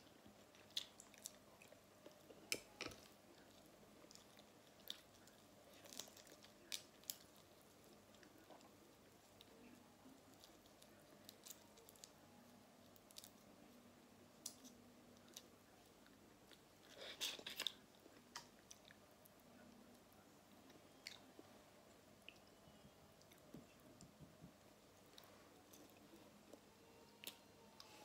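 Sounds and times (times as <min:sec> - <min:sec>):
faint chewing with mouth clicks: 0:00.0 - 0:28.0.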